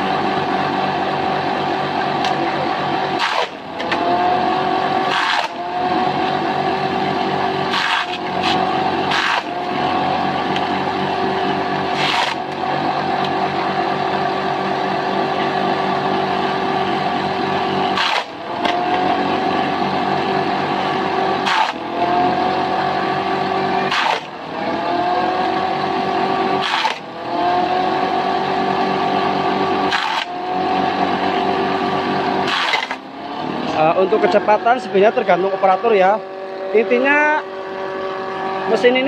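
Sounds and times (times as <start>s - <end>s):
chaff cutter motor humming: 0.0s - 39.0s.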